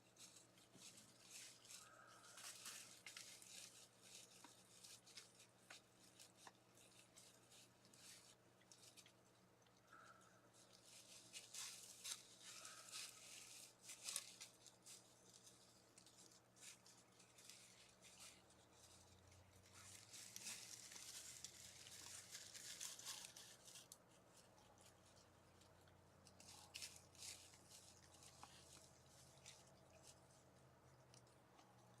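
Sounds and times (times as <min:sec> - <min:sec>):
animal scratching and rustling: 0:00.0 - 0:32.0.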